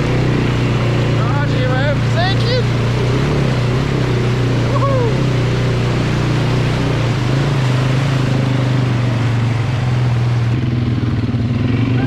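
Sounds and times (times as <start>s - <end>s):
atv engine running: 0.0s - 12.0s
rushing wind and tyres: 0.0s - 12.0s.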